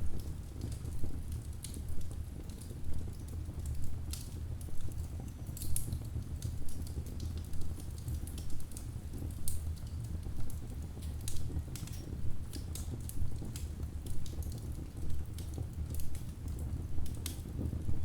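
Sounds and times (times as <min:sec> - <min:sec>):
low rumble of flame: 0:00.0 - 0:18.0
fire crackling and popping: 0:00.1 - 0:18.0.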